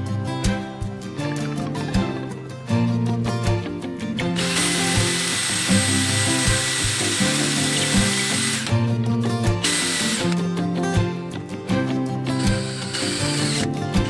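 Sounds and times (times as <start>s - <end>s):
background music: 0.0s - 14.0s
power tool whining: 0.0s - 14.0s.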